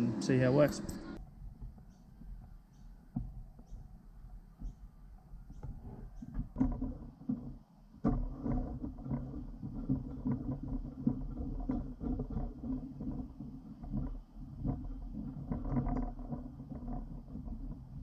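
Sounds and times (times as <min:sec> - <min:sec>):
clatter: 0:01.2 - 0:18.0.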